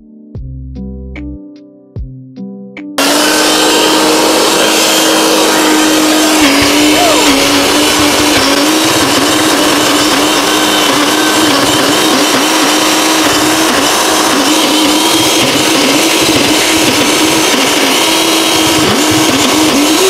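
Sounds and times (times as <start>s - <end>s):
electric blender motor hum: 3.0s - 20.0s.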